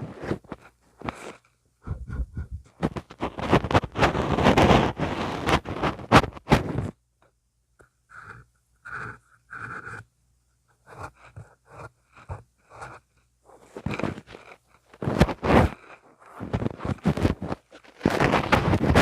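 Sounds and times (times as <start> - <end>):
ear pick scraping microphone: 0.0 - 7.0, 8.1 - 10.1, 10.8 - 19.0.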